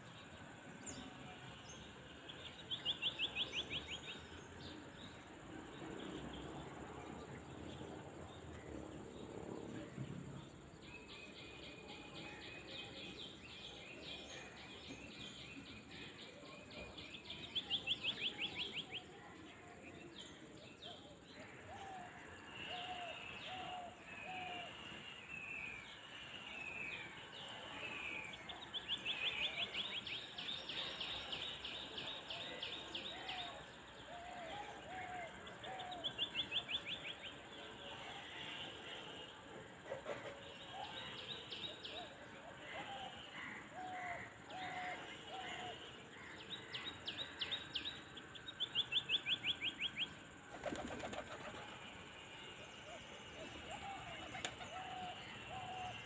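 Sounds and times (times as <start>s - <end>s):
birds calling and singing: 0.0s - 39.4s, 40.1s - 56.0s
steady outdoor hiss: 0.0s - 56.0s.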